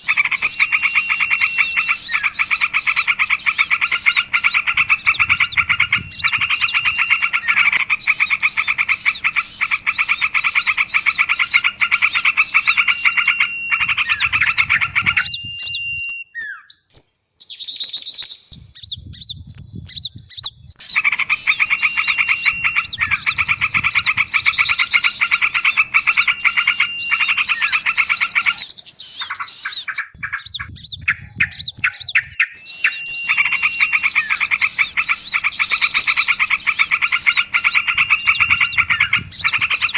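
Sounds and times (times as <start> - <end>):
songbirds chattering and trilling: 0.0 - 39.9.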